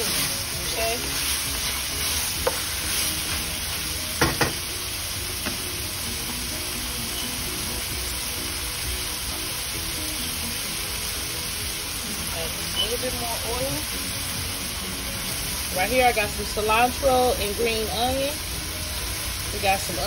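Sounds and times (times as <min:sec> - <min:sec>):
chicken sizzling in a wok: 0:00.0 - 0:20.0.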